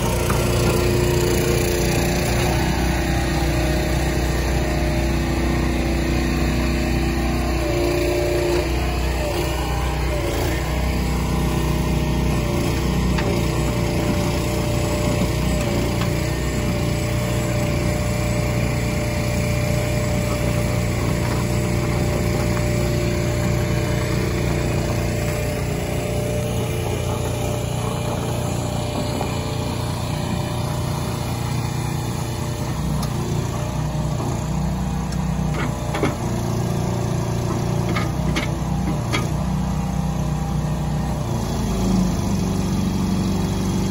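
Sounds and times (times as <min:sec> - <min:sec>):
engine running: 0:00.0 - 0:43.9.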